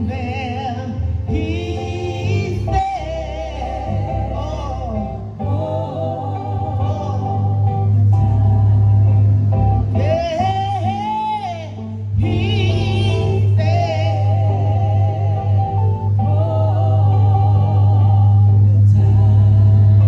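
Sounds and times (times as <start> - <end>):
electronic keyboard chords: 0.0 - 20.0
gospel voices singing: 0.0 - 20.0.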